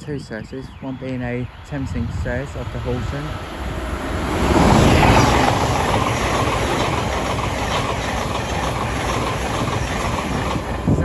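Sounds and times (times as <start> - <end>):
electric train passing at speed: 0.0 - 11.0.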